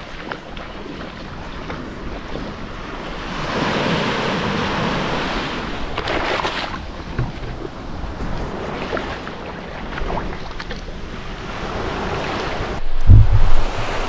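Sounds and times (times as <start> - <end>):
small surf waves breaking: 0.0 - 14.0.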